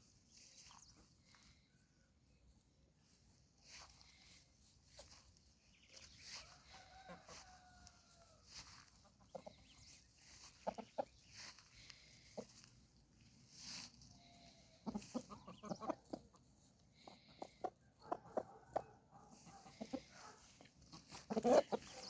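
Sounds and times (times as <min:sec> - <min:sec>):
chickens clucking: 0:02.4 - 0:22.0.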